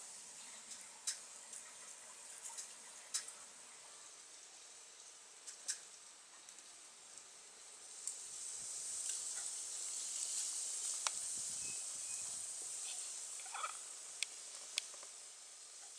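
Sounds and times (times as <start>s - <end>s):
insect chorus hissing: 0.0s - 15.9s.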